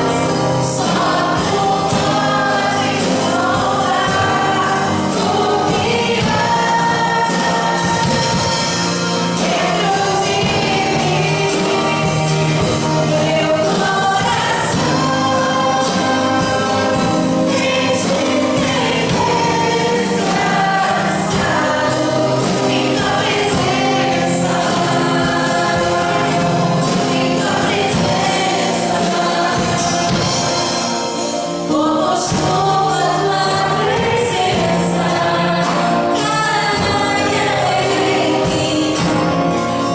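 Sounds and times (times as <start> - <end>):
choir singing gospel song: 0.0 - 39.9
sustained band accompaniment: 0.0 - 39.9.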